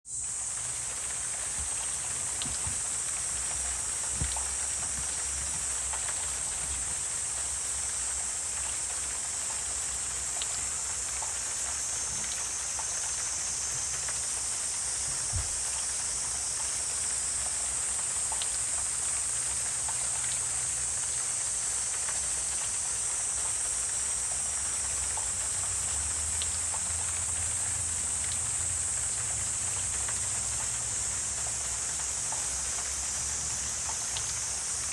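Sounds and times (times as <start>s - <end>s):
faint ticks and drips: 0.1s - 34.9s.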